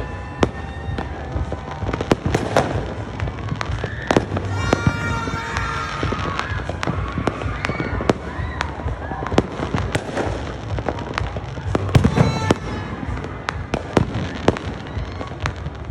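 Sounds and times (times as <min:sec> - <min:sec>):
fireworks bangs and crackles: 0:00.0 - 0:15.9.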